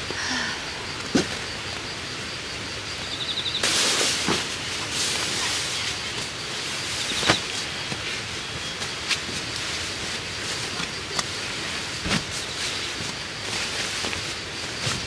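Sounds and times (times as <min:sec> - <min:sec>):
outdoor background noise: 0:00.0 - 0:15.0
rustling hiss: 0:00.0 - 0:15.0.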